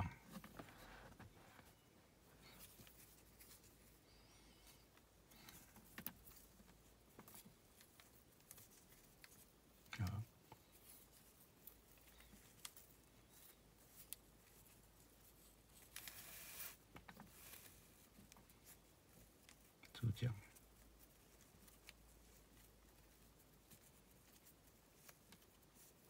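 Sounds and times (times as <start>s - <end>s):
cord rustling and clicking: 2.4s - 4.0s, 4.6s - 26.0s.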